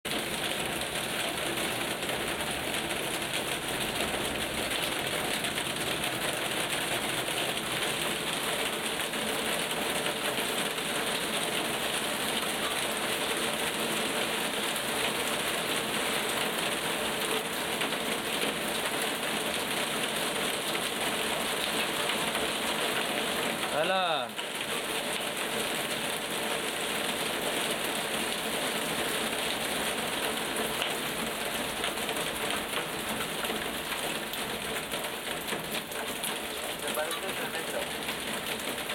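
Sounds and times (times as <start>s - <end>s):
heavy rain pouring: 0.1s - 38.9s.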